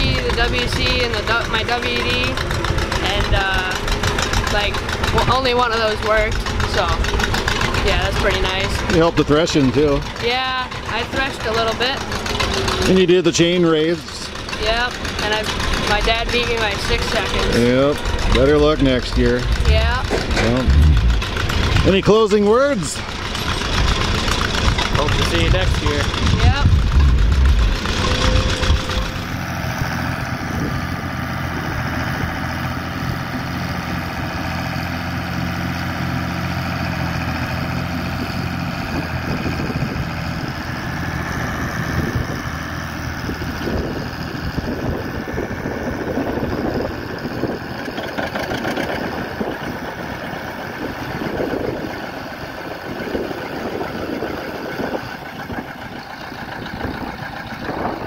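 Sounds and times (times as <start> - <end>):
tractor engines running: 0.0 - 58.0.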